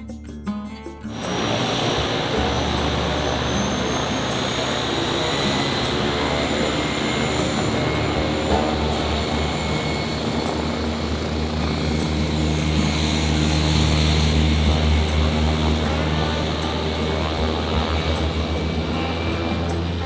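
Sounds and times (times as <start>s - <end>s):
propeller airplane engine: 1.0s - 20.0s.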